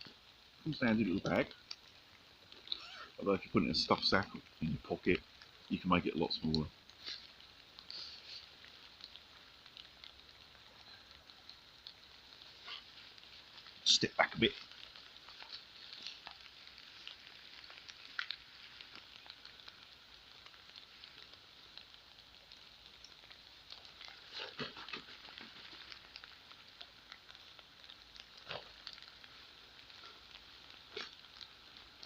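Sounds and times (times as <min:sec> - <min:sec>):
rain falling with crackles: 0:00.0 - 0:32.0.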